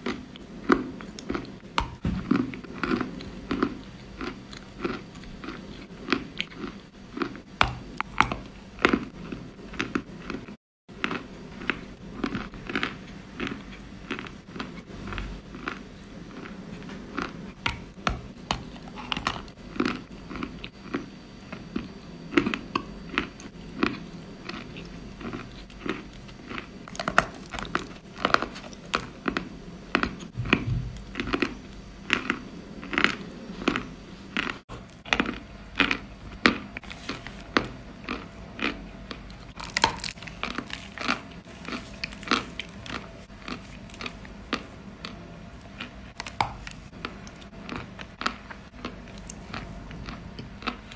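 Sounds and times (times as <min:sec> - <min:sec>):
cookie crunching: 0:00.0 - 0:50.9.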